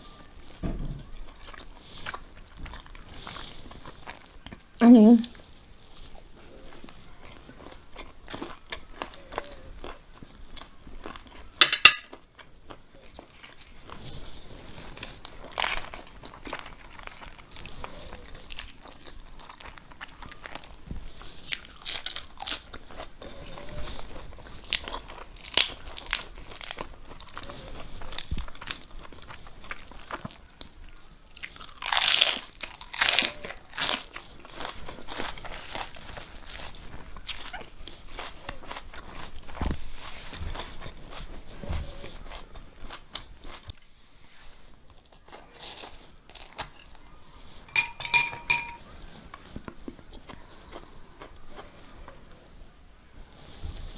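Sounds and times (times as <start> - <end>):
crunchy bites and chewing: 0.5 - 43.8, 44.8 - 47.6.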